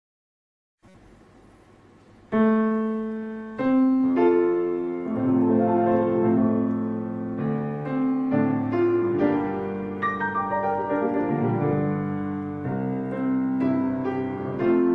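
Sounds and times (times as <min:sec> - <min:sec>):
faint hiss: 0:00.8 - 0:14.9
slow piano music: 0:02.3 - 0:14.9.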